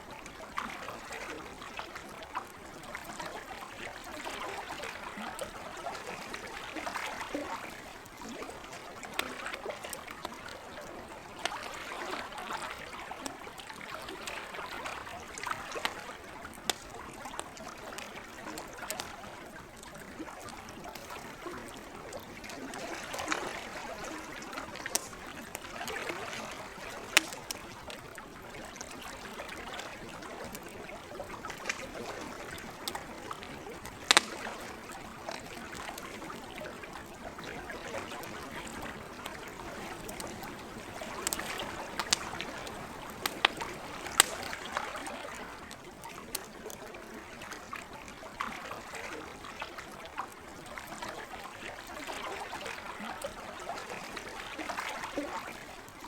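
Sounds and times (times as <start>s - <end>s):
gentle lake water: 0.0s - 56.0s
campfire crackling and popping: 0.3s - 48.4s.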